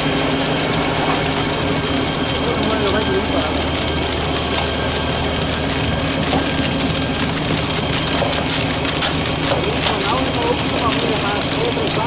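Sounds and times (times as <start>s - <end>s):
wood chipper drive hum: 0.0s - 12.0s.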